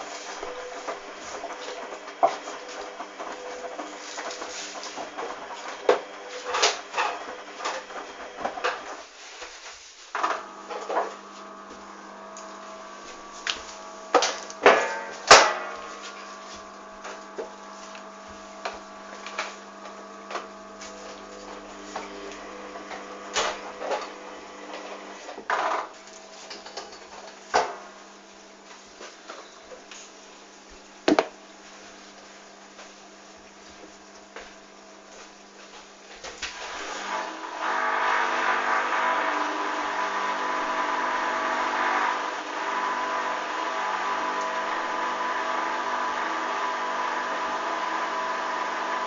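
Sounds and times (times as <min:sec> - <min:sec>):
washing machine motor humming: 0:00.0 - 0:09.5, 0:10.1 - 0:49.0.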